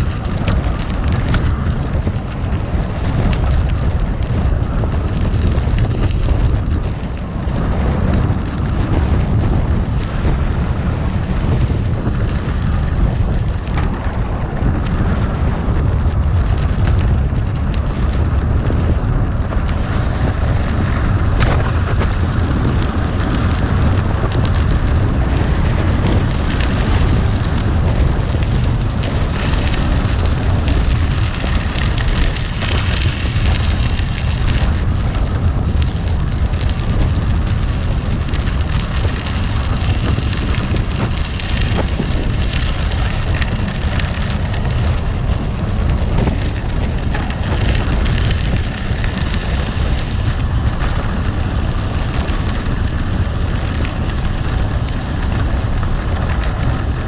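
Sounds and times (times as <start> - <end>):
bike tyres crunching on gravel: 0.0 - 57.0
small clicks and rattles: 0.0 - 57.0.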